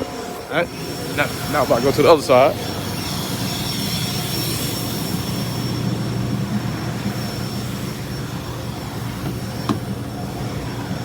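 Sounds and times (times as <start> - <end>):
vacuum motor drone: 0.0 - 11.0.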